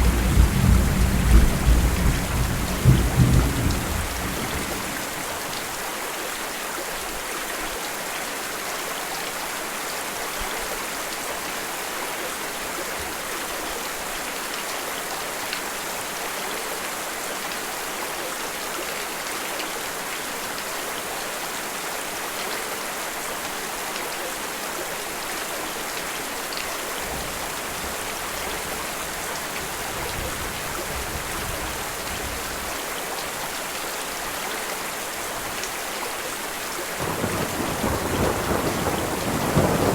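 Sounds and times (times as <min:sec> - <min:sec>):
dense rainfall hissing: 0:00.0 - 0:39.9.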